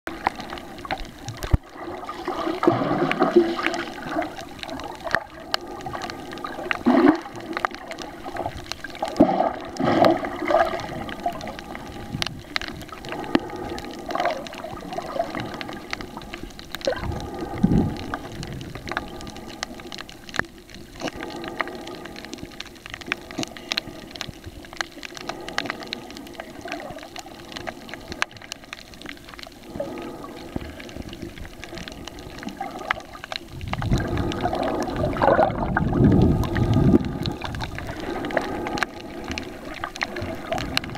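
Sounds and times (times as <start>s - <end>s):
underwater gurgling and sloshing: 0.1s - 40.9s.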